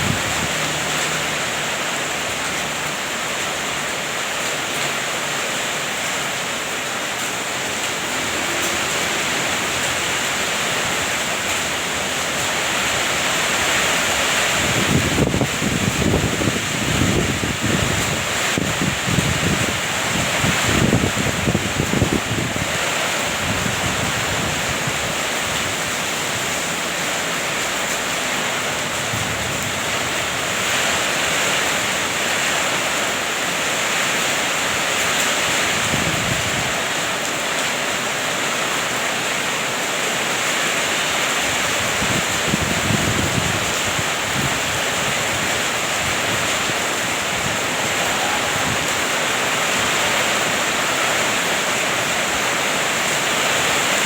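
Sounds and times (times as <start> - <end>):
heavy rain pouring: 0.0 - 54.0
wind: 0.0 - 54.0.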